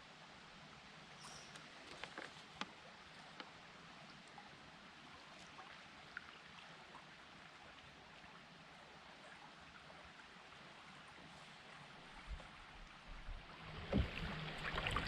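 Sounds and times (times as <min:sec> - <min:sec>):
flowing river water: 0:00.0 - 0:15.0
small ticks and drips: 0:01.1 - 0:15.0.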